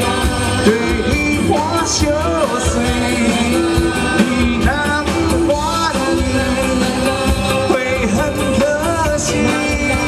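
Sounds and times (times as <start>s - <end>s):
band playing pop-rock song: 0.0s - 10.0s.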